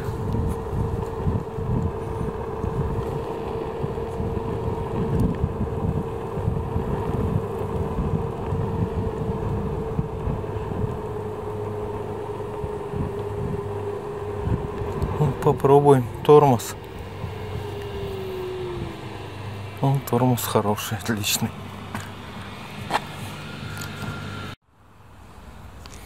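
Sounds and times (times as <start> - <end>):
electric motor whine: 0.0 - 24.6
tyres rumbling on road: 0.0 - 24.6
wind buffeting microphone: 0.0 - 24.6.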